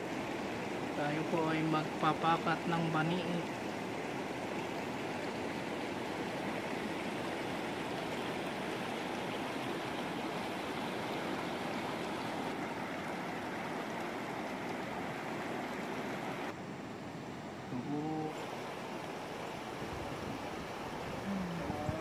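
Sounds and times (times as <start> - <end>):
river rushing over rocks: 0.0 - 16.8, 18.2 - 22.0.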